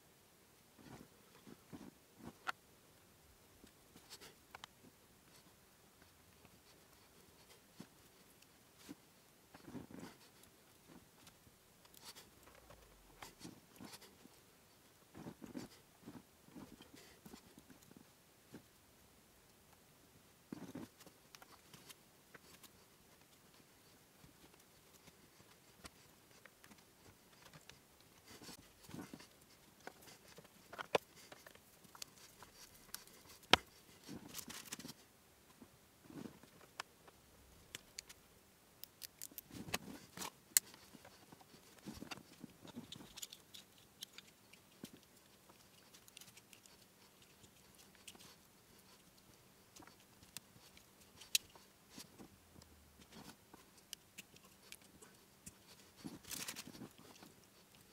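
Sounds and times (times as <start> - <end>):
wires rustling and tapping: 3.6 - 18.8, 20.5 - 57.9.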